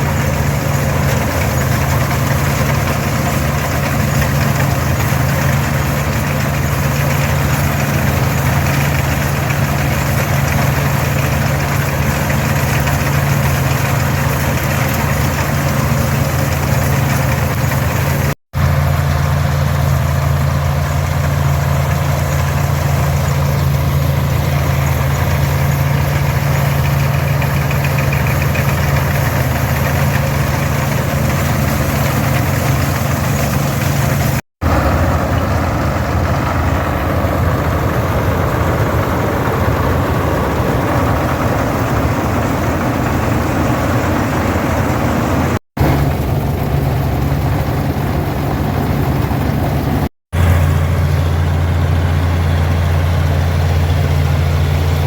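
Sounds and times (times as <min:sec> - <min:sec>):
combine harvester machinery: 0:00.0 - 0:55.0
tractor diesel engine running: 0:00.0 - 0:55.0.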